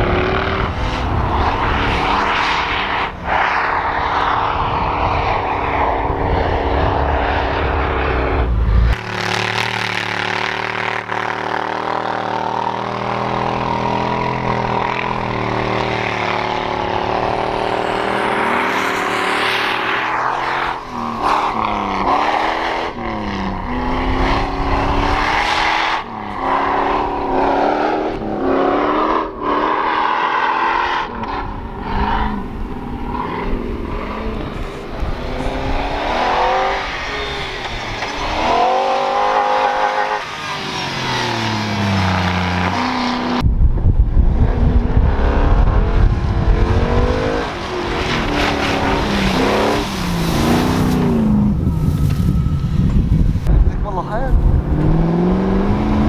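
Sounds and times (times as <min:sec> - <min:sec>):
engines revving hard: 0:00.0 - 0:43.4, 0:44.3 - 0:51.8, 0:53.8 - 0:56.0.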